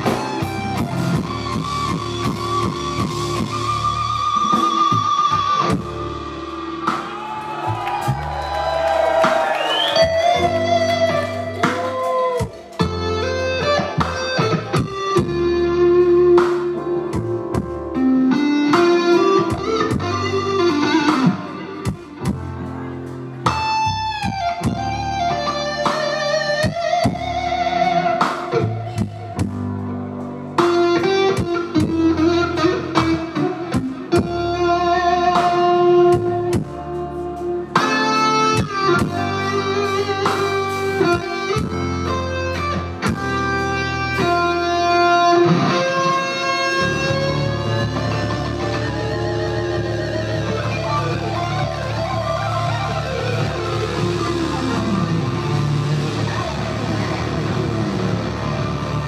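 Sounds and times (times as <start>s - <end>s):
blues-rock band playing: 0.0s - 59.0s
electric guitar bent notes: 9.2s - 59.0s.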